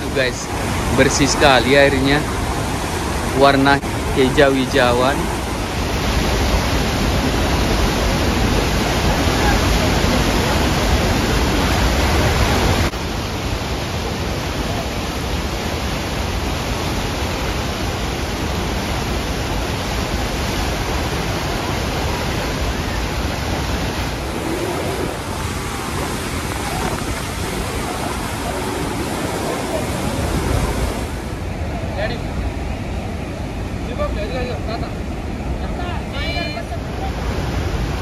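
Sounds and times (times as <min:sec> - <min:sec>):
waterfall and river roaring: 0:00.0 - 0:38.0.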